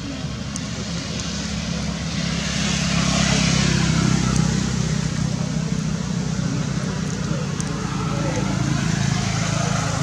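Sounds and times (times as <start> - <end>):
motor vehicle passing: 0.0 - 10.0.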